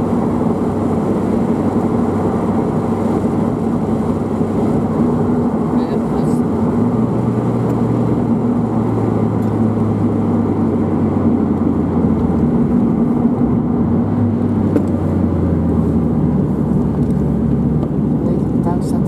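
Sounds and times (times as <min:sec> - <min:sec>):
car engine while driving: 0:00.0 - 0:19.0
tyre and road noise: 0:00.0 - 0:19.0.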